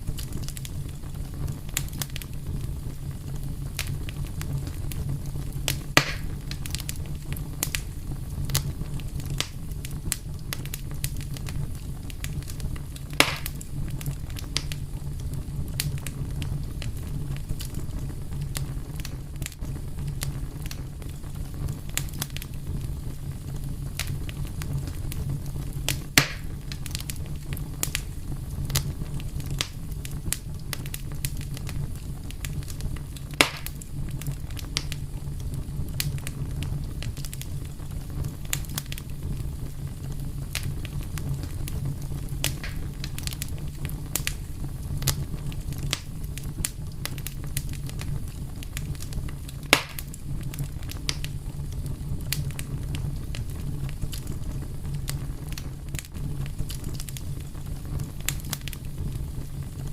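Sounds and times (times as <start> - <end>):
fire crackling: 0.0 - 59.9
fire popping: 0.0 - 59.9
low rumble of flames: 0.0 - 59.9.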